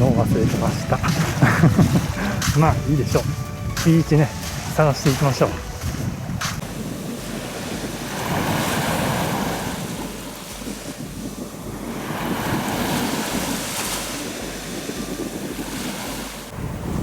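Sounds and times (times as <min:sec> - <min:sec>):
surf breaking on beach: 0:00.0 - 0:17.0
wind rumbling on microphone: 0:00.0 - 0:17.0.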